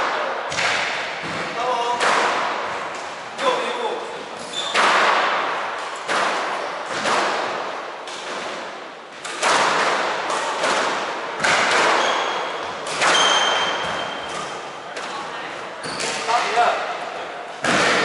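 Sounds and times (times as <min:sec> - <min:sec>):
squash ball hits echoing: 0:00.0 - 0:15.2, 0:17.5 - 0:18.0.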